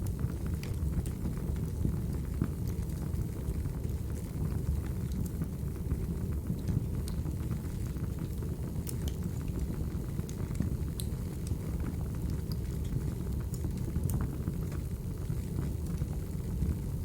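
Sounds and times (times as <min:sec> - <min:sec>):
crackling wood fire: 0:00.0 - 0:17.0.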